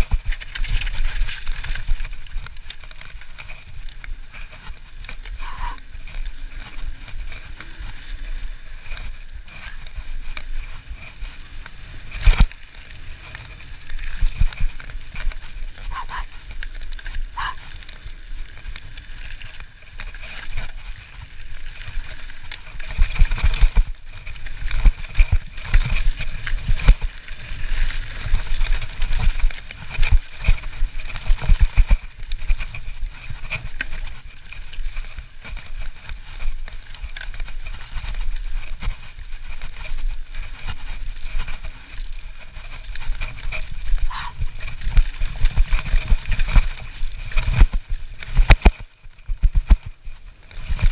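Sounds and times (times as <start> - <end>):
bike rattling: 0.0 - 50.9
bike tyres rolling on gravel: 0.0 - 50.9.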